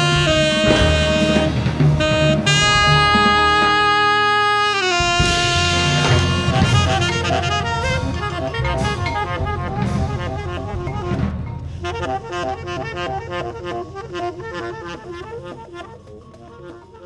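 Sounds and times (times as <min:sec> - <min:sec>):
drums: 0:00.0 - 0:17.0
saxophone: 0:00.0 - 0:17.0.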